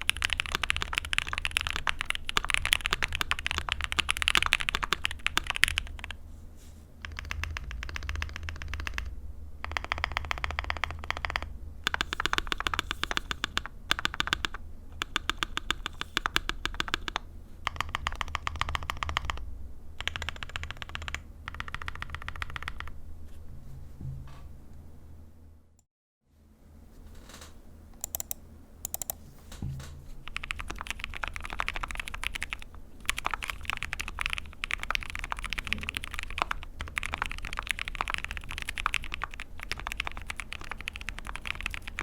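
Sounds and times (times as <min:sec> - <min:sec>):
mechanical keyboard typing: 0:00.0 - 0:06.2, 0:07.0 - 0:19.4, 0:20.0 - 0:22.9, 0:28.0 - 0:29.2, 0:30.2 - 0:42.0.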